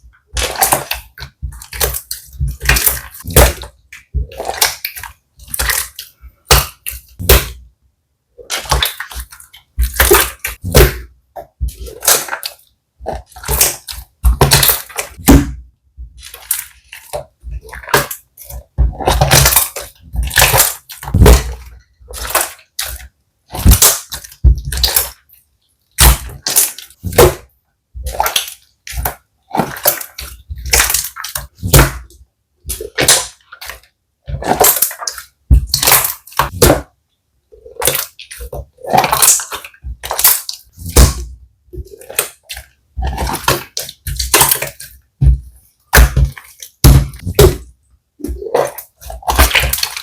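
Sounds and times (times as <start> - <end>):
slime squishing: 0.0 - 50.0.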